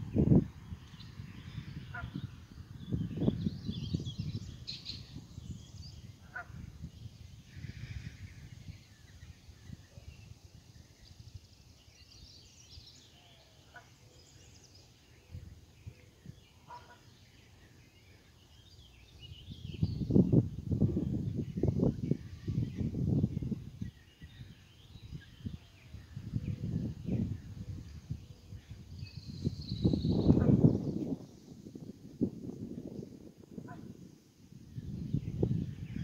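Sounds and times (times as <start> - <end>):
birds chirping and calling: 0.1 - 31.6.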